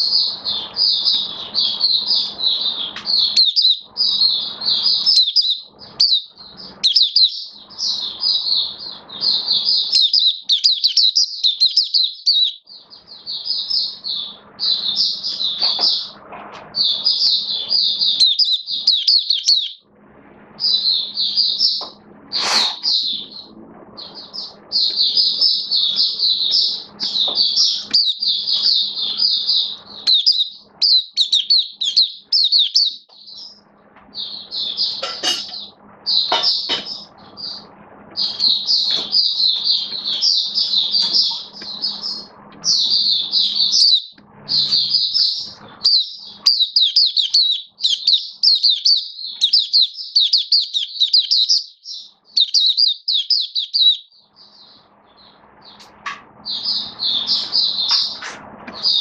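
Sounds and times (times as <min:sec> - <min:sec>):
bird twittering: 0:00.0 - 0:19.8, 0:20.6 - 0:59.0.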